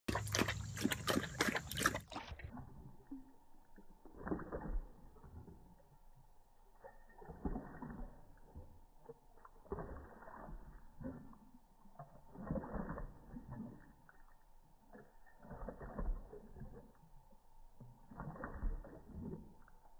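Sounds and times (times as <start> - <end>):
dog lapping water from bowl: 0.0 - 19.9.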